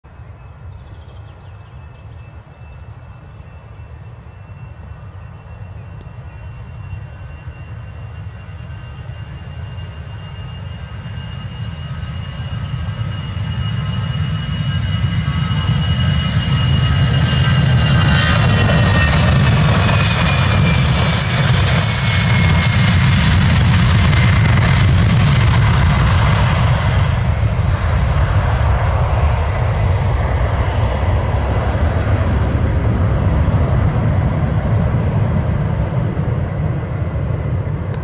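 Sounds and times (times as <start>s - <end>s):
jet engines rumbling and whining: 0.1s - 38.0s.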